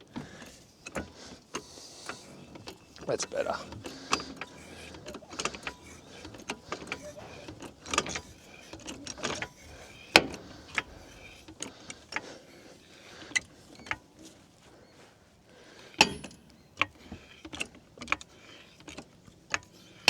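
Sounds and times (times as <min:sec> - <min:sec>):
floor jack metal clicks and clanks: 0:00.0 - 0:12.3, 0:15.9 - 0:19.8.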